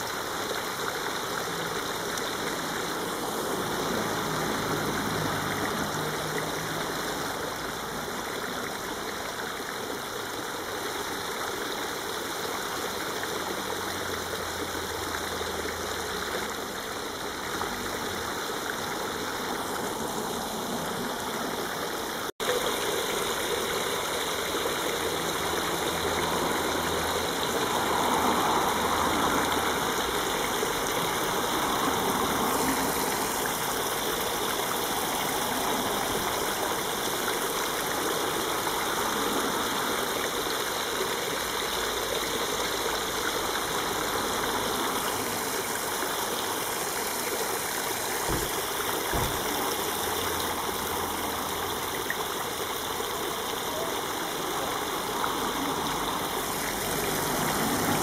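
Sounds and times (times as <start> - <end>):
water jets splashing into stream: 0.0 - 58.0.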